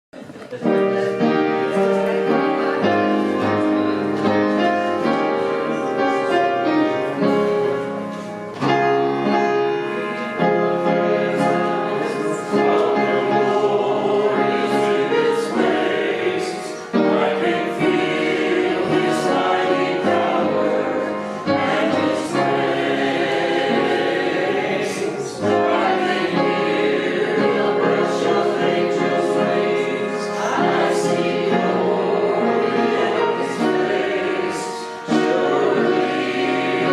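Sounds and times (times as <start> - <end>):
church choir singing: 0.6 - 36.9.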